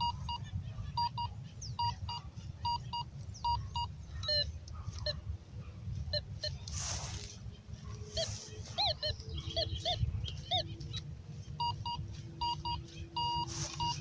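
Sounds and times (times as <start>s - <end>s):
metal detector beeping: 0.0s - 5.2s, 6.1s - 7.2s, 8.1s - 14.0s.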